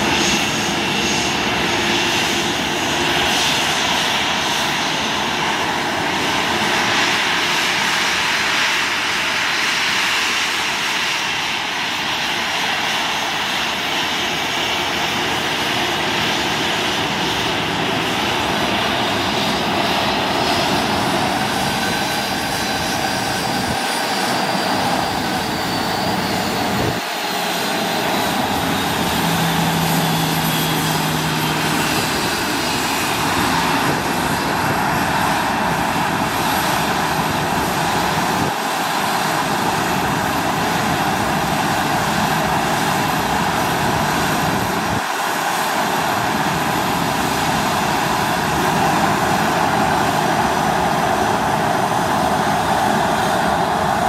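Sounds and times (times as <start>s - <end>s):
jet engine rush and whine: 0.0s - 54.0s.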